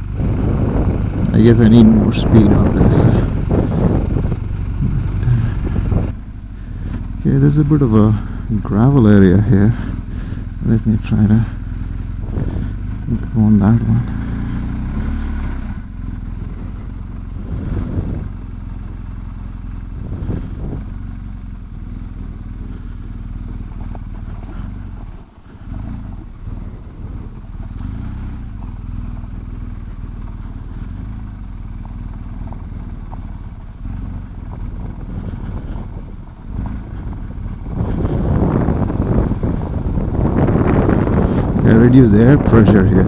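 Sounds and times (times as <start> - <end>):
motorcycle engine at low speed: 0.0 - 43.0
tyres on gravel: 0.0 - 43.0.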